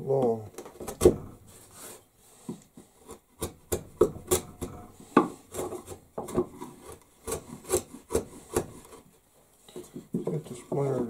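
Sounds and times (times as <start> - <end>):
wood chisel scraping wood: 1.1 - 11.0.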